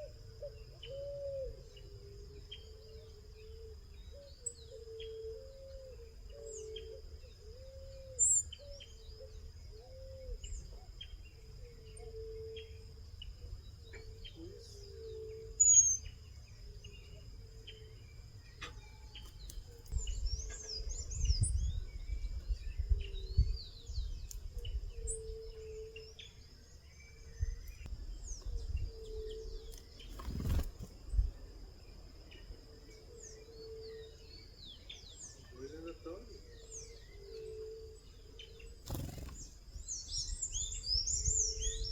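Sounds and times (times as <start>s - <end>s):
birds chirping: 0.0s - 41.9s.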